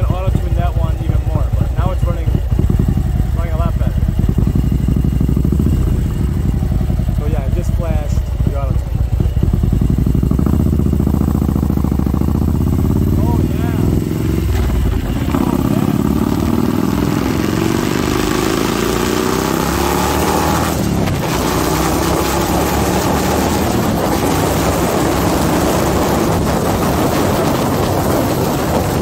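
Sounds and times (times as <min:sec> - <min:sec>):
motorcycle engine accelerating: 0:00.0 - 0:29.0
rough rushing noise: 0:01.2 - 0:29.0.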